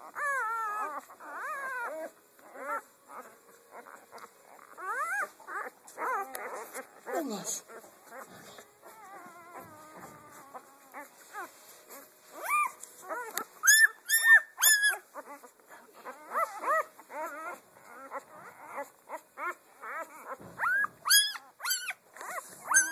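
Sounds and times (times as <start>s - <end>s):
puppies squeaking and whimpering: 0.0s - 22.9s.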